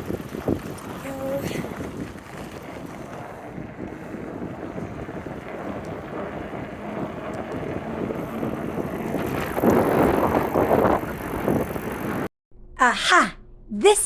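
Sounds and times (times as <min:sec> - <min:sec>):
wind buffeting microphone: 0:00.0 - 0:12.3.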